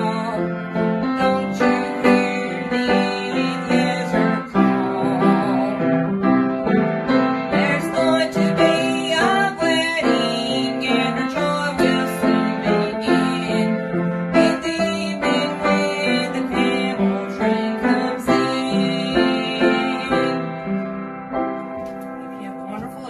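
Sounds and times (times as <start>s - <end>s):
piano playing hymn chords: 0.0s - 23.0s.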